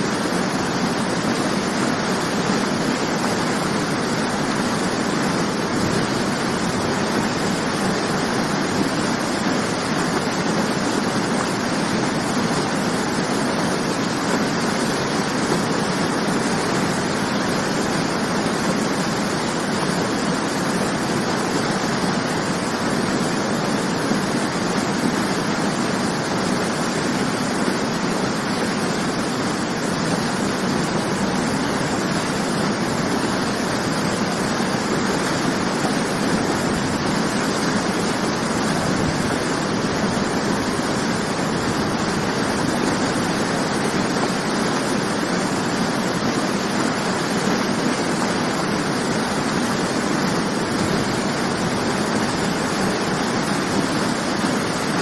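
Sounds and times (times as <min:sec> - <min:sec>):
waterfall splashing: 0:00.0 - 0:55.0.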